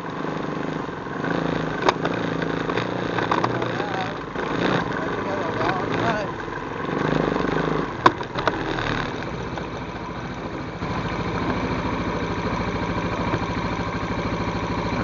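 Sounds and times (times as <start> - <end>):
atv engine idling: 0.0 - 15.0.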